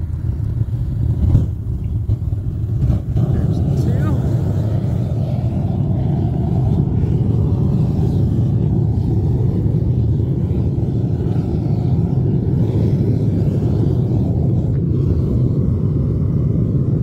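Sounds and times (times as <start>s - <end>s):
propane burner flame rumbling: 0.0s - 17.0s.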